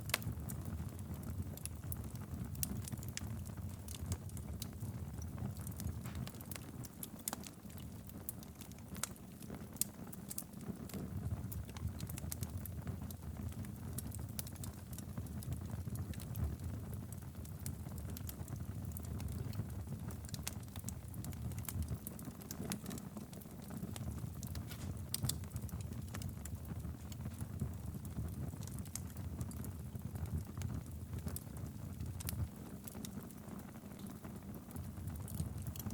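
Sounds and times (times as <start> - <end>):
burning wood crackling and popping: 0.0 - 35.9
fire flames rumbling: 0.0 - 35.9.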